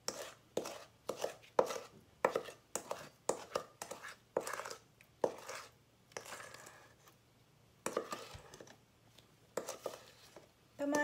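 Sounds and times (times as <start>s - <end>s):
spatula scraping bowl: 0.0s - 7.2s, 7.8s - 8.8s, 9.5s - 11.0s.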